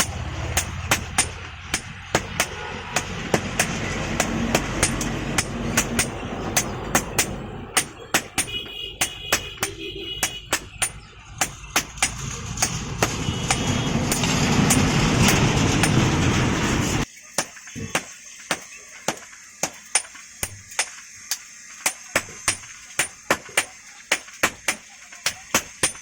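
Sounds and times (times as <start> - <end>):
hammer striking iron on anvil: 0.0 - 16.2, 17.4 - 26.0.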